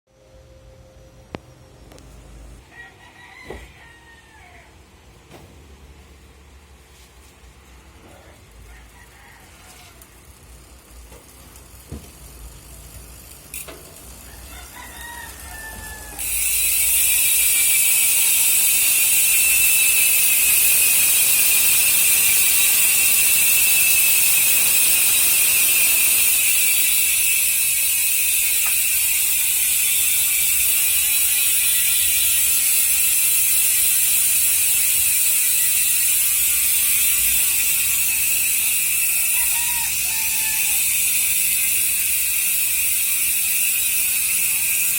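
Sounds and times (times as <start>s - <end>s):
bicycle hub ratcheting buzz: 7.5s - 44.9s
bicycle hub clicks: 8.3s - 44.9s.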